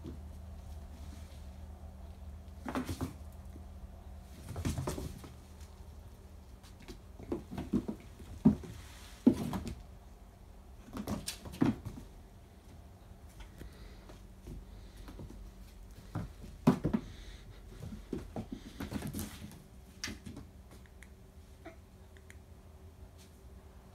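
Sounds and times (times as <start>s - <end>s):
kittens' paws thumping and scuffling: 0.0s - 10.1s, 10.7s - 21.0s
faint low hum: 0.0s - 23.9s.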